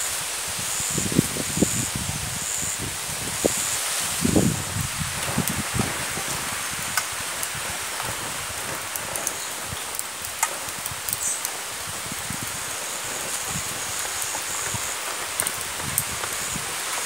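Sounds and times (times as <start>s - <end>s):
fire crackles and pops: 0.0s - 17.0s
hiss of flames: 0.0s - 17.0s.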